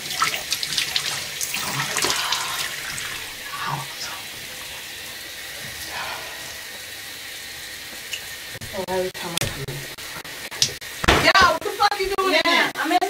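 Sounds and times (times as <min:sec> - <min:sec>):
tap water running into sink: 0:00.0 - 0:12.1.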